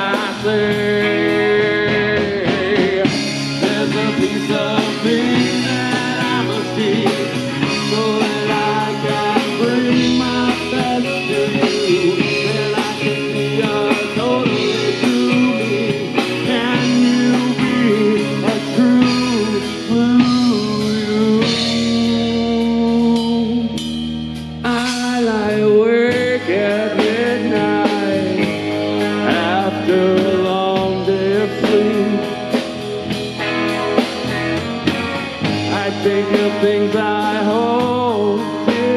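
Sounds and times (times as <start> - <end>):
person singing: 0.0 - 24.0, 24.6 - 33.0, 35.4 - 38.9
bass guitar: 0.0 - 38.9
drum kit: 0.0 - 38.9
electric guitar: 0.0 - 38.9.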